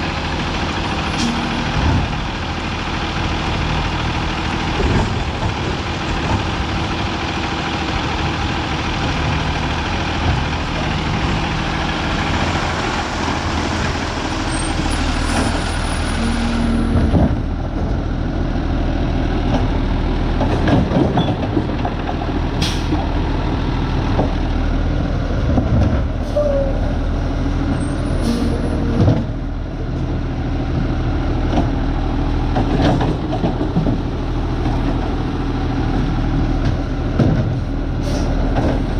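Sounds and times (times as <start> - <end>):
diesel garbage truck running: 0.0 - 38.9.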